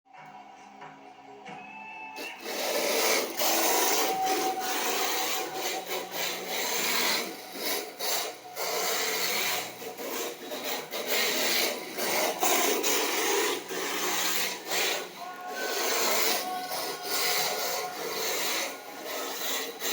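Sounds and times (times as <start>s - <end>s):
toy car tyres scraping floor: 2.2s - 19.9s.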